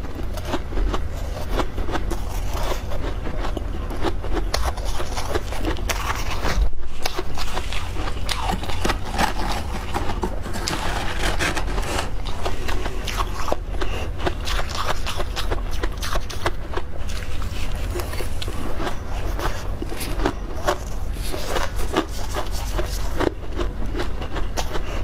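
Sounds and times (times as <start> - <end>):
chewing crunchy frost: 0.0 - 25.0.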